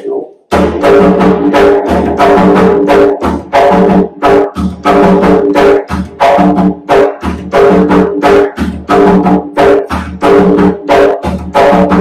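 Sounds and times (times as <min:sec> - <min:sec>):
drum slaps: 0:00.0 - 0:12.0
barrel drum played by hand: 0:00.5 - 0:12.0.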